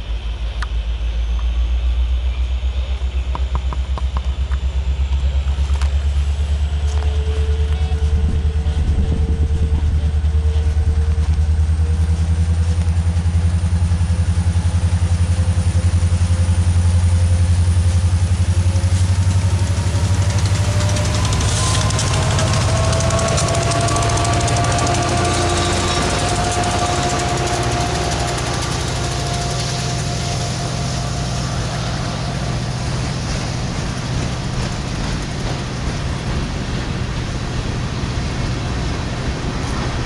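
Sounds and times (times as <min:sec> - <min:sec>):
thin rising whine: 0:00.0 - 0:34.8
freight train rumble: 0:00.0 - 0:40.0
wheels clattering on rails: 0:03.0 - 0:40.0.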